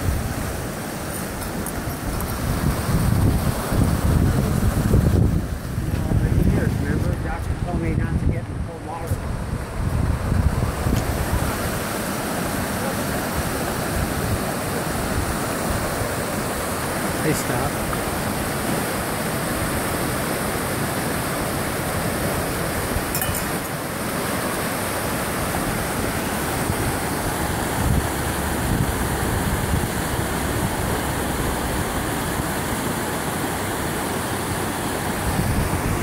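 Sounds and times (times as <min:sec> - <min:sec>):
water rushing over rocks: 0:00.0 - 0:36.0.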